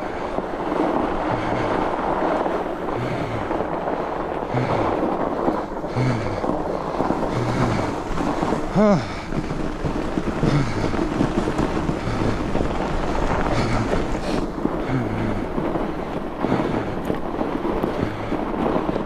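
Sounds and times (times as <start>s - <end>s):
tyres rolling on snow: 0.0s - 19.0s
wind buffeting microphone: 0.0s - 19.0s.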